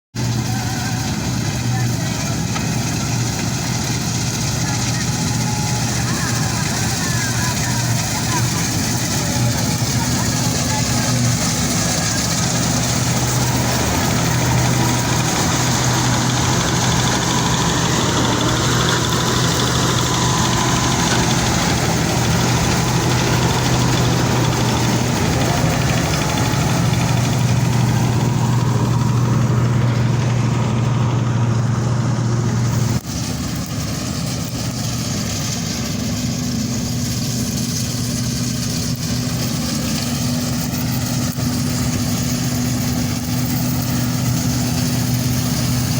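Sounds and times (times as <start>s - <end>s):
harvesting machine engine running: 0.2s - 45.9s.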